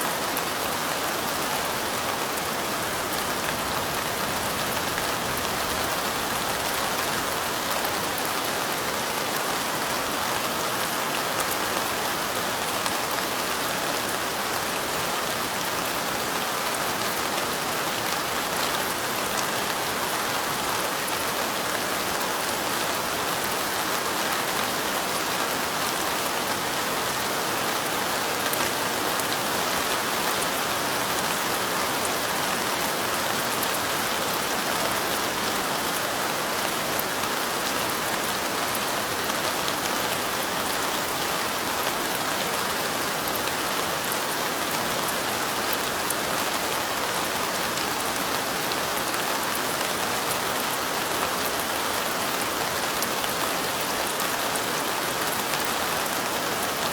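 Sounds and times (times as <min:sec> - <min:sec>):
light rain pattering: 0:00.0 - 0:56.9.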